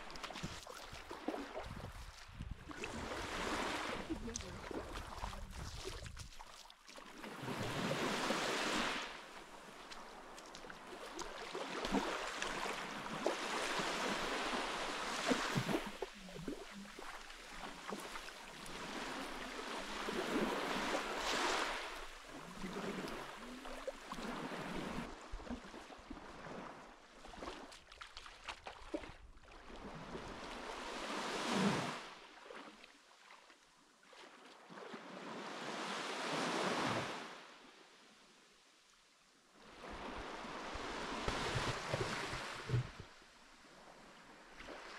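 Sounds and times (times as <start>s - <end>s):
sea waves breaking on beach: 0.0s - 32.8s, 34.3s - 37.6s, 39.6s - 44.9s.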